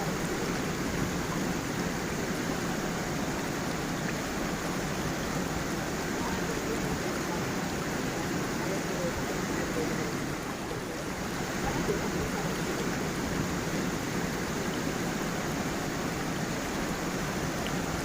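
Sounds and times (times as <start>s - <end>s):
stream and waterfall splashing: 0.0s - 18.0s.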